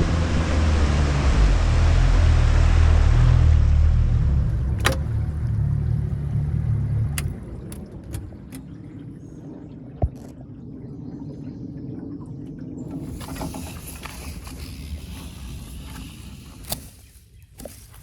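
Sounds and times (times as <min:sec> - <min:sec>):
boat motor rumbling: 0:00.0 - 0:18.0.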